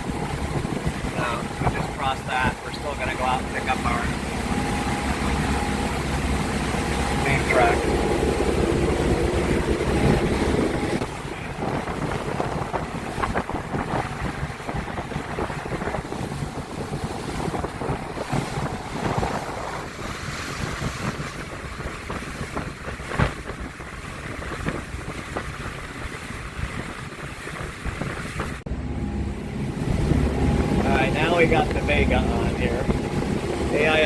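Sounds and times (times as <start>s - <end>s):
water rushing along boat hull: 0.0s - 34.0s
wind buffeting microphone: 0.0s - 34.0s.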